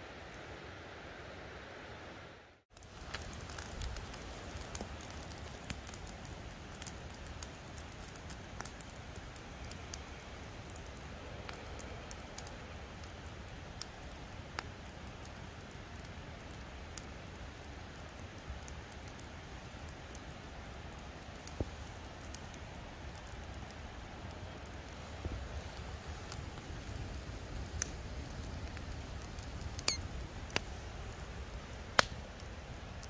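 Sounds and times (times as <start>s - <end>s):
campfire crackling and popping: 2.7s - 33.0s
fire hiss: 2.7s - 33.0s.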